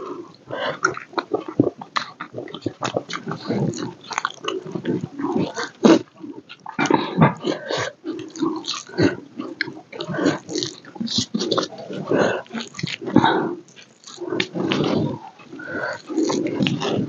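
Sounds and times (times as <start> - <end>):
wet chewing and lip-smacking: 0.8 - 17.0.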